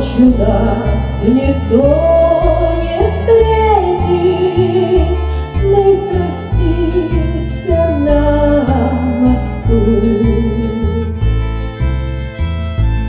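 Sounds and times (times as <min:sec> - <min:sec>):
woman singing: 0:00.0 - 0:11.2
steady bass notes: 0:00.0 - 0:13.0
violin-like melody: 0:00.0 - 0:13.0.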